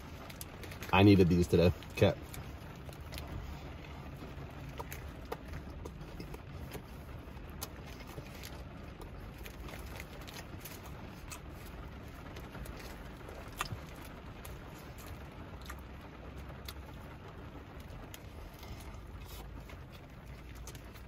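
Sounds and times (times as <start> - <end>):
rain on a car roof: 0.0 - 21.0
soft chewing: 0.0 - 21.0.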